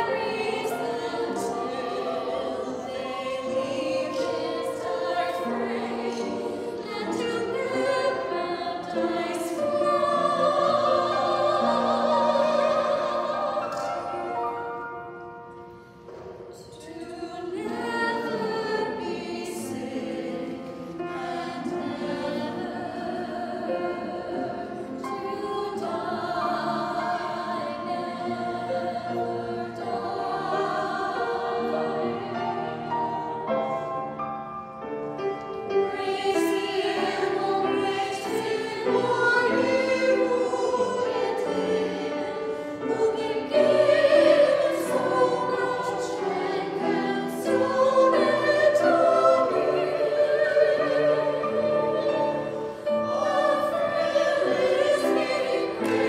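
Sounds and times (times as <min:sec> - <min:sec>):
women's choir singing a hymn: 0:00.0 - 0:56.0.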